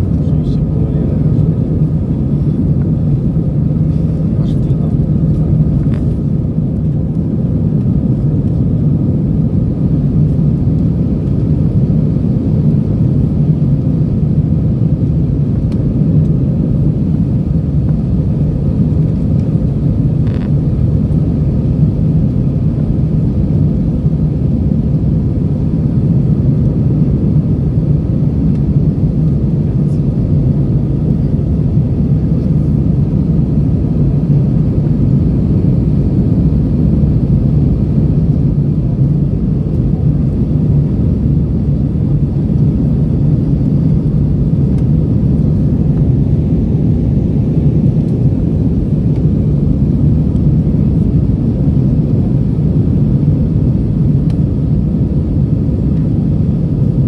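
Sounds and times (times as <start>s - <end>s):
faint steady whine: 0.0s - 57.0s
jet engine and airflow drone: 0.0s - 57.0s.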